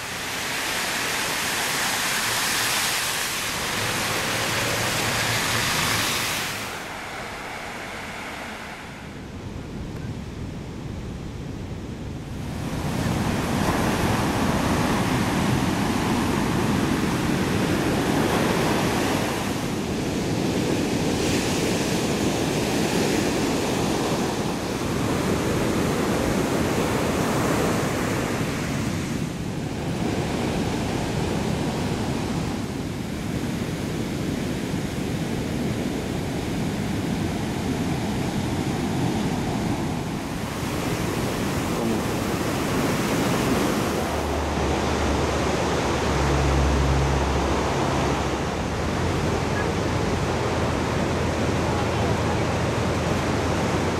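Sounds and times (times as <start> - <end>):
surf breaking on beach: 0.0 - 9.8, 12.3 - 53.9.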